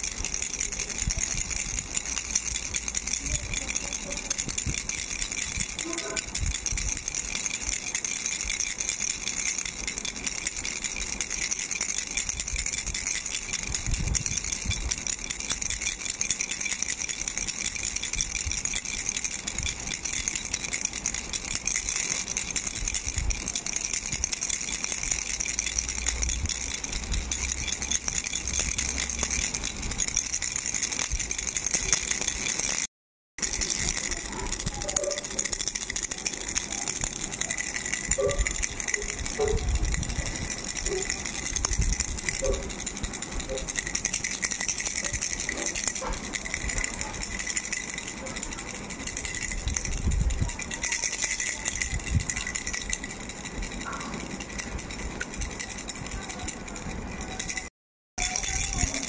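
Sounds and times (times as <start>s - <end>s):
plastic baby rattle shaking: 0.0s - 59.0s.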